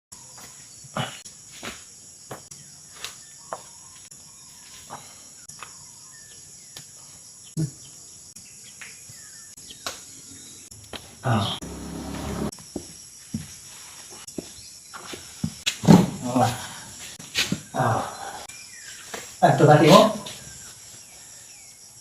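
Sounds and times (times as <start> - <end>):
insects chirring: 0.1 - 22.0.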